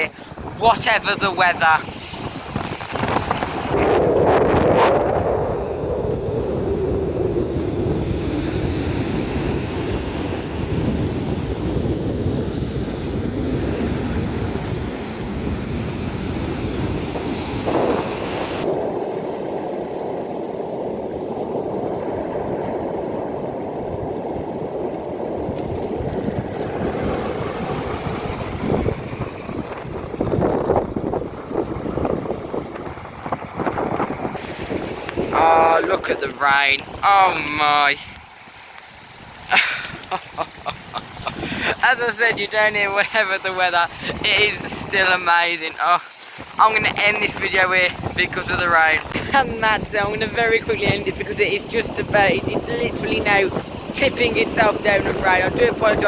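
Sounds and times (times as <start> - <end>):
sea surf breaking on beach: 0.0 - 56.0
wind buffeting microphone: 0.0 - 56.0.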